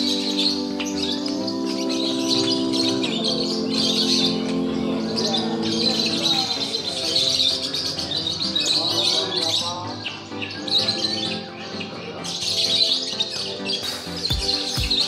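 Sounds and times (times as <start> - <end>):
low tone of voices or music: 0.0 - 15.0
songbirds chirping and trilling: 0.0 - 15.0.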